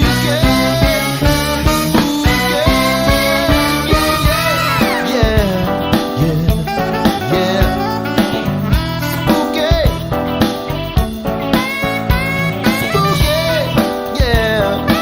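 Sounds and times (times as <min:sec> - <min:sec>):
guitar bending lead lines: 0:00.0 - 0:15.0
steady drum beat: 0:00.0 - 0:15.0.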